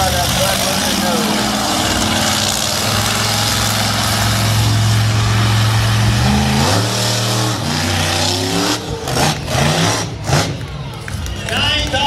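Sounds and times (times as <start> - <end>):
monster truck engine running hard: 0.0 - 12.0.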